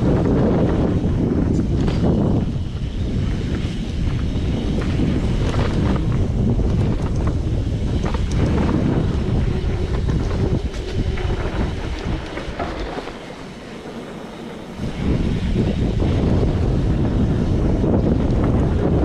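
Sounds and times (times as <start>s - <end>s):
bike tyres clicking and rattling: 0.0s - 19.0s
wind buffeting microphone: 0.0s - 19.0s.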